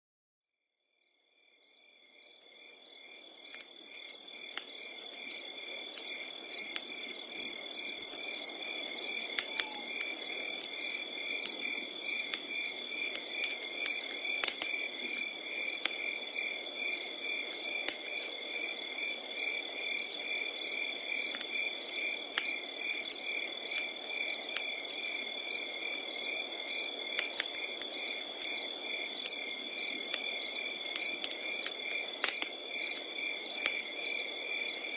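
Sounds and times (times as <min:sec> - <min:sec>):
crickets chirping: 0:01.0 - 0:34.9
wood fire crackling and popping: 0:02.4 - 0:34.9.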